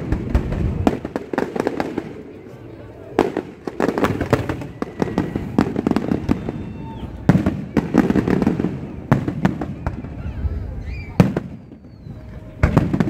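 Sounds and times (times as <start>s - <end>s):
fireworks bangs and pops: 0.0s - 2.4s, 3.2s - 10.2s, 11.2s - 13.0s.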